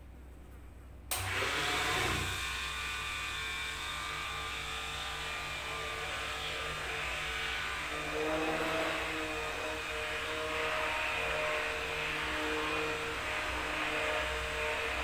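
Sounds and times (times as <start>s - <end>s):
hand blender running in steel pot: 1.2s - 15.0s.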